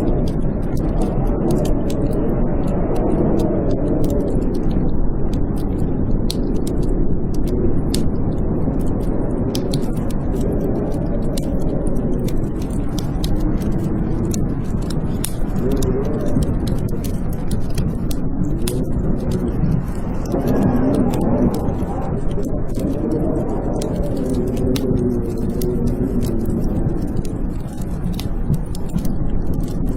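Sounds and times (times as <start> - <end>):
blizzard wind howling: 0.0 - 29.9
fireplace crackling: 0.0 - 29.9.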